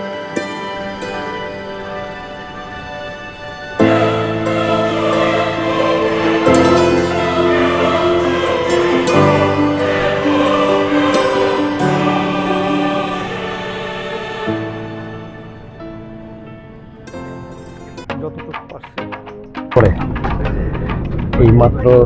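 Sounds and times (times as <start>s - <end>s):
sustained chords with choir singing: 0.0s - 18.1s.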